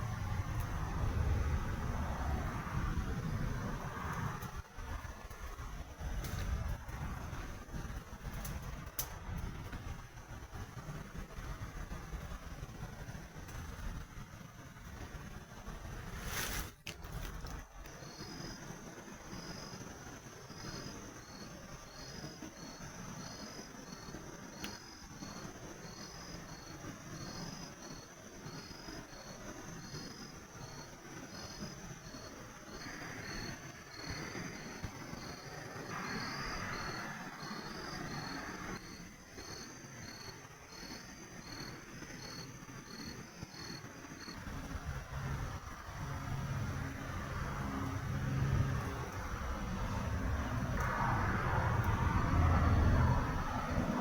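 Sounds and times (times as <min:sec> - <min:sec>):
insects droning: 0:00.0 - 0:54.0
soft rushing hiss: 0:00.0 - 0:54.0.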